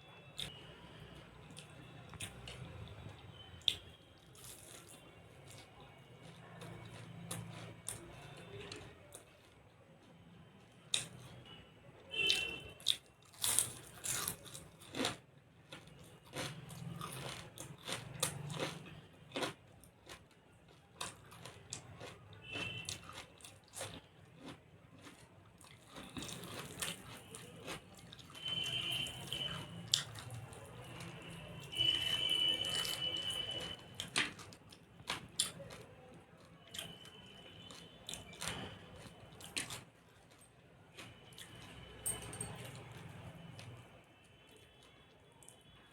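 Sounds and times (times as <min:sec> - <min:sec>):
chewing and crunching food: 0:00.2 - 0:45.9.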